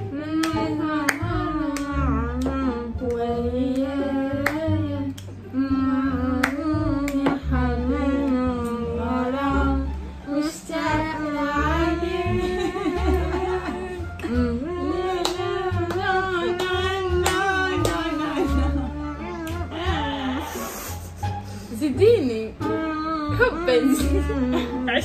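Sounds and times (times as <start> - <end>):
woman singing: 0.0 - 20.6, 21.8 - 25.0
music accompaniment with bass: 0.0 - 25.0.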